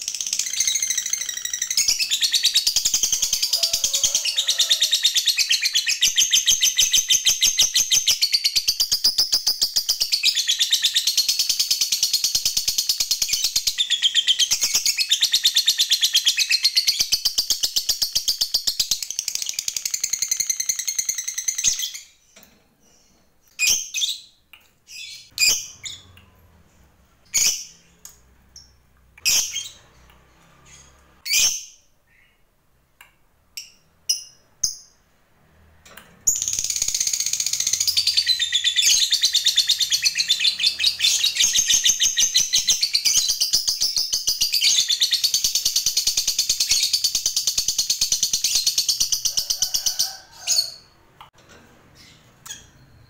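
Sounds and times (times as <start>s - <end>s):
lovebird chirps: 0.0s - 26.5s, 27.2s - 32.4s, 36.3s - 50.9s, 52.0s - 53.0s.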